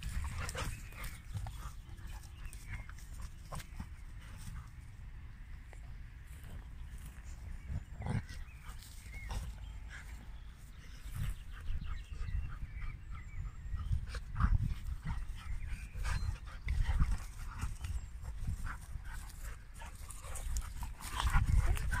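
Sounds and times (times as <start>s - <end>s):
dogs play-fighting: 0.0s - 5.1s, 6.3s - 22.0s.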